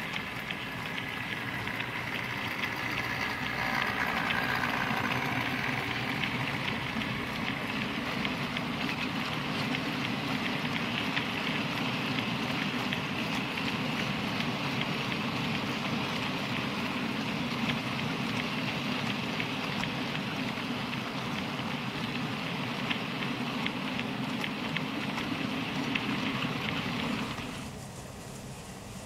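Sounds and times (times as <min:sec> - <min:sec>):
model wagons rumbling: 0:00.0 - 0:29.0
wheels clicking over rail joints: 0:00.0 - 0:29.0.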